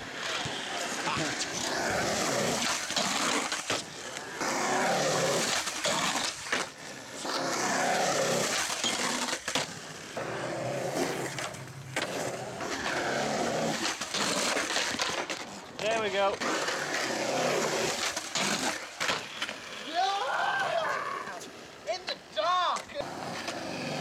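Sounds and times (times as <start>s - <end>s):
skateboard clacks: 0.0s - 20.8s
skateboard wheels rolling on concrete: 0.0s - 24.0s.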